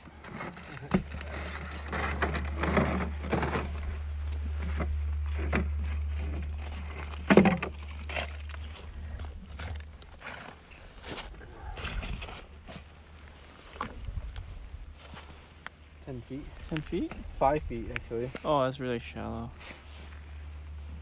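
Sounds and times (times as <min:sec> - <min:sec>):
gear clicks and rustles: 0:00.0 - 0:18.7.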